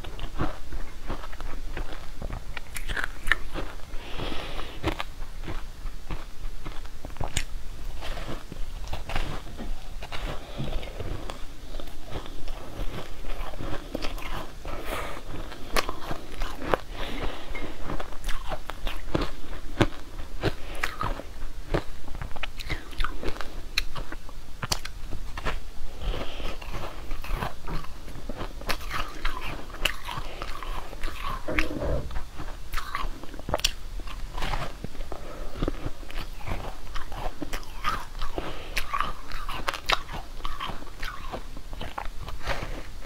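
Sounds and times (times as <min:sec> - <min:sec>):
crunchy frozen food chewing: 0:00.0 - 0:43.0.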